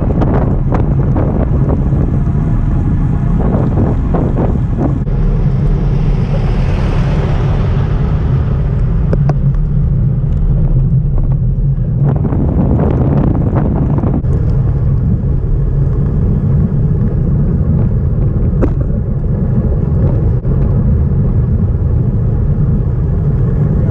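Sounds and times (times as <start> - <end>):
low road rumble: 0.0 - 23.9
wind buffeting microphone: 0.0 - 23.9.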